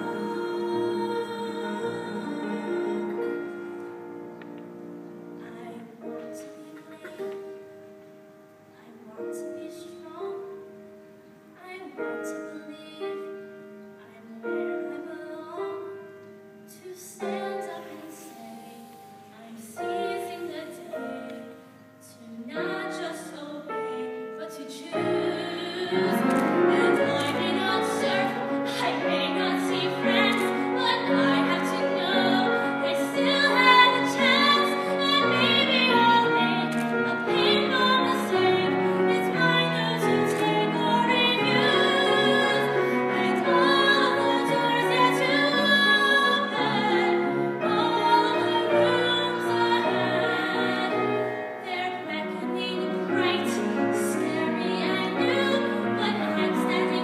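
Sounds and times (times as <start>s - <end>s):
piano accompaniment: 0.0s - 57.0s
girl singing: 5.4s - 7.4s, 8.7s - 10.7s, 11.6s - 57.0s.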